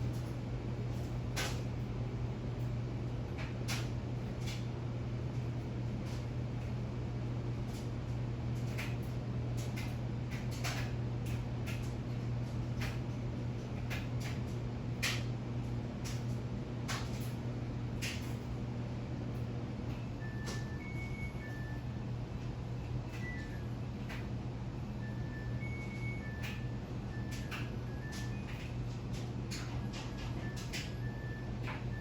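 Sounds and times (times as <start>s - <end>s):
ceiling fan motor humming: 0.0s - 32.0s.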